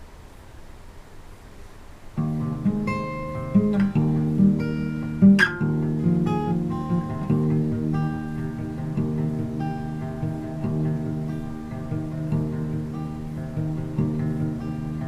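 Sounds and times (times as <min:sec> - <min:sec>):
acoustic guitar chords: 0:02.2 - 0:15.0.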